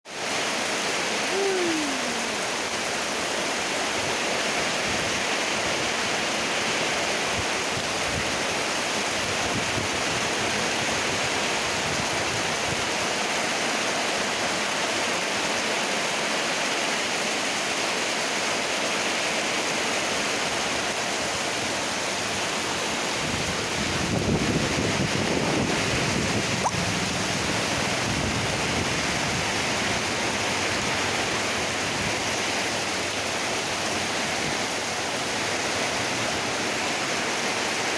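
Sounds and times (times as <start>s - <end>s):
floodwater rushing: 0.1s - 37.9s.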